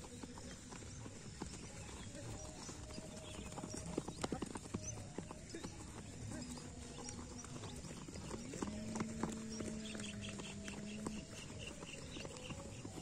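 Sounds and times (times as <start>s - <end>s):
bare footsteps running on grass: 0.0s - 13.0s.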